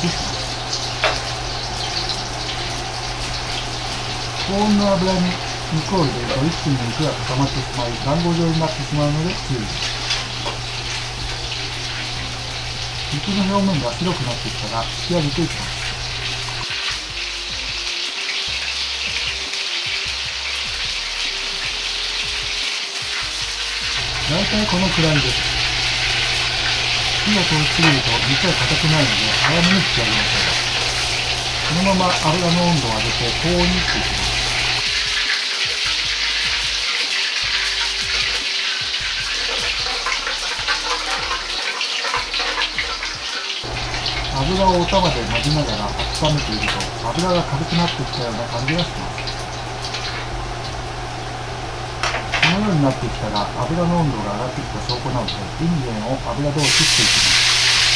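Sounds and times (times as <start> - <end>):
beef sizzling in oil: 0.0 - 57.9.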